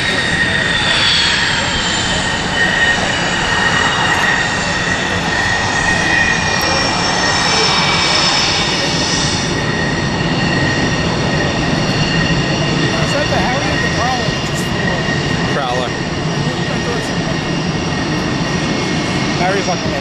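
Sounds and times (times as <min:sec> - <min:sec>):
jet engines roaring with whistling: 0:00.0 - 0:20.0.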